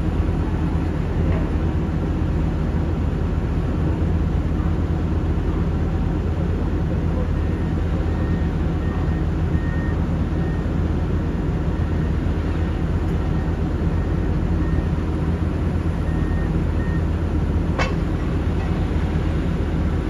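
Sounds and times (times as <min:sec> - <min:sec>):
heavy diesel engines droning: 0:00.0 - 0:20.0.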